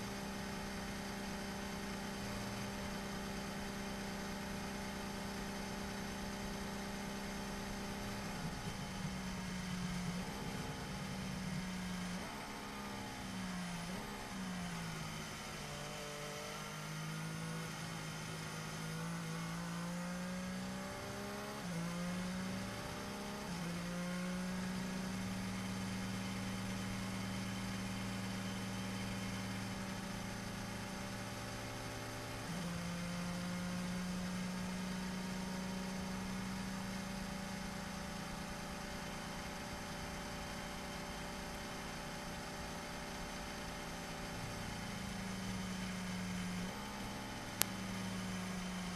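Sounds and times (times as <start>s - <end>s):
racing car engine at low revs: 0.0s - 48.9s.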